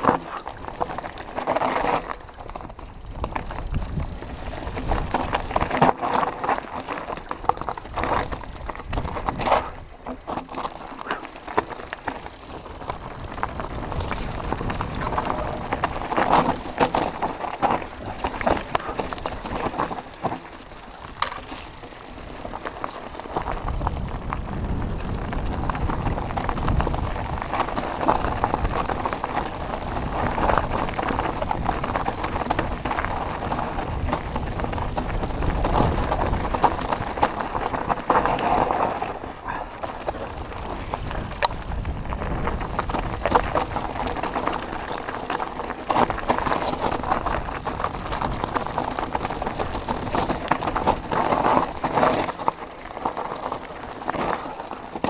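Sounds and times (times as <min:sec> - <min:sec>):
bike rattling over stones: 0:00.0 - 0:55.0.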